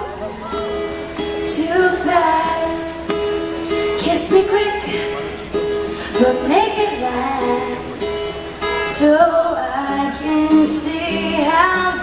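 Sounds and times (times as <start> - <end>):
live band playing pop ballad: 0.0 - 12.0
picked acoustic guitar: 0.0 - 12.0.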